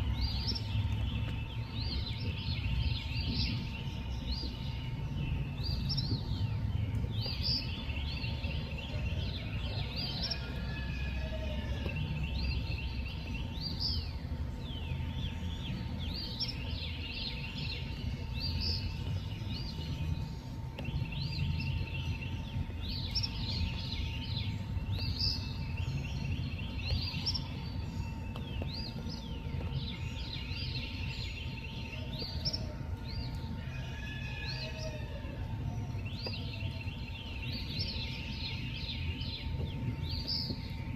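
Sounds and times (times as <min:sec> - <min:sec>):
chorus of high chirping calls: 0:00.0 - 0:40.9
faint hum: 0:00.0 - 0:40.9
low rumbling noise: 0:00.0 - 0:40.9.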